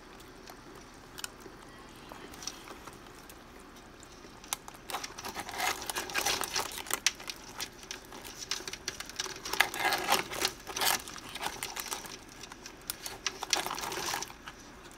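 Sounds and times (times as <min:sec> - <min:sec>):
crab shells clicking and scraping: 0:00.0 - 0:14.9.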